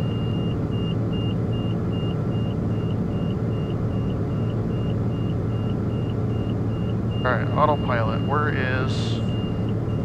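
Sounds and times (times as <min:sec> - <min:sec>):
aircraft engine cabin drone: 0:00.0 - 0:10.0
short high warning beeps: 0:00.0 - 0:10.0.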